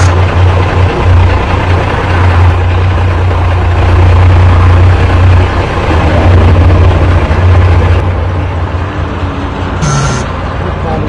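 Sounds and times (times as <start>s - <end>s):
diesel exhaust drone: 0.0s - 11.0s.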